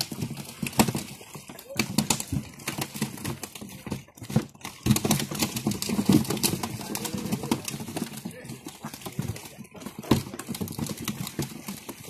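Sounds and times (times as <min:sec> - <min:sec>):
fish flapping on plastic tarp: 0:00.0 - 0:12.0.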